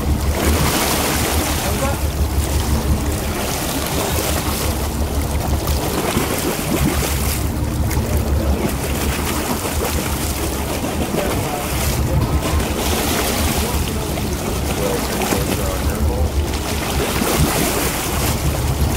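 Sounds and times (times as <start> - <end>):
wind and water noise: 0.0 - 18.9.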